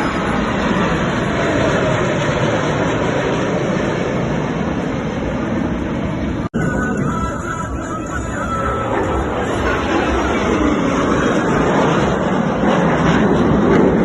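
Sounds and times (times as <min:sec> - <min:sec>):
jet aircraft roaring past: 0:00.0 - 0:14.0.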